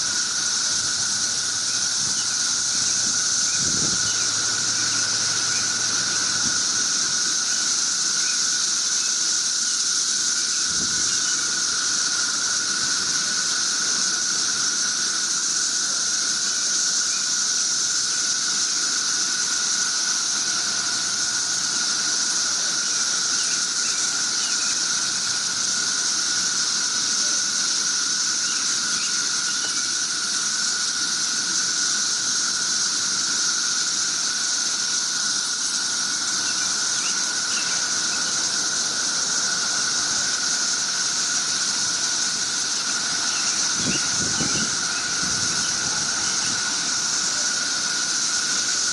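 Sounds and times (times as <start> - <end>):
cicadas chorus whining: 0.0 - 48.9.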